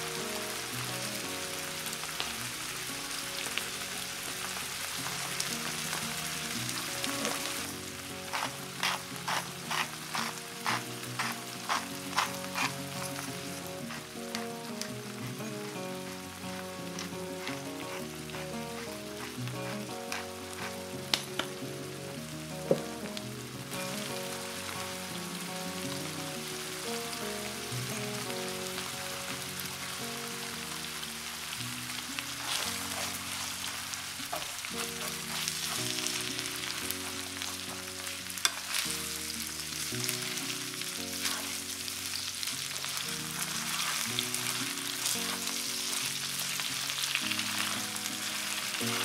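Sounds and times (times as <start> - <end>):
food sizzling in frying pan: 0.0 - 49.0
soft background music: 0.0 - 49.0.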